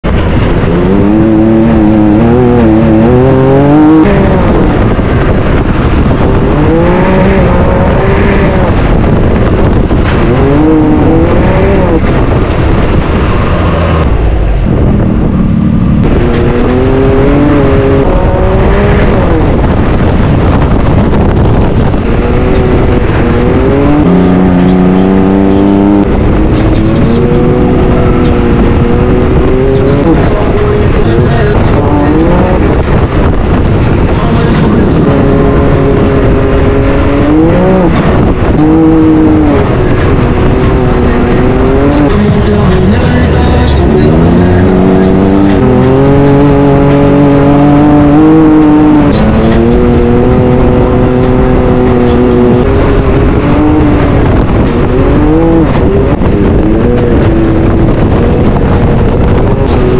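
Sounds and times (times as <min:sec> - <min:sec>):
engine revving hard: 0:00.3 - 0:05.0, 0:05.6 - 0:14.1, 0:14.8 - 0:20.6, 0:21.2 - 0:33.0, 0:33.9 - 0:58.5.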